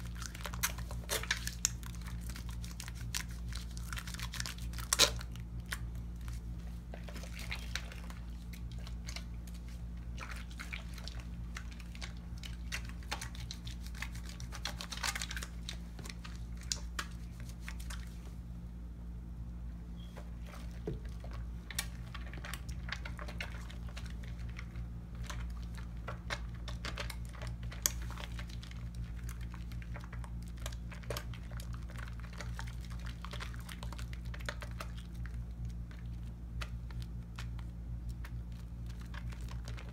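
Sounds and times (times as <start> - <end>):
hands lathering wet soap: 0.0 - 18.4, 20.4 - 39.9
steady low hum: 0.0 - 39.9.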